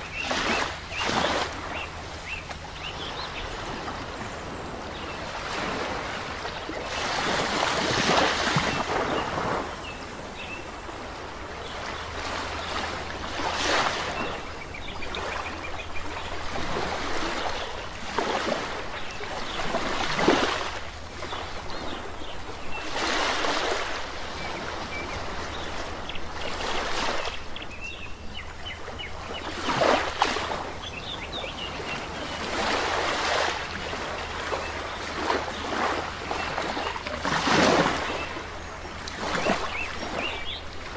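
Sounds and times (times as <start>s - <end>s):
sea waves washing onto shore: 0.0s - 27.8s, 28.4s - 40.9s.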